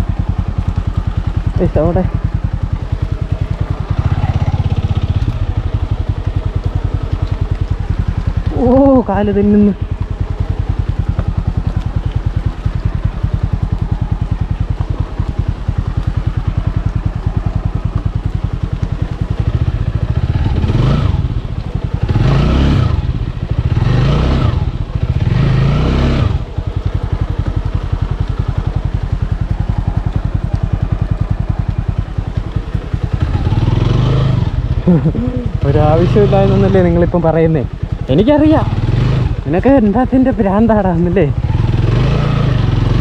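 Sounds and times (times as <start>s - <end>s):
motorcycle engine chugging and revving: 0.0s - 43.0s.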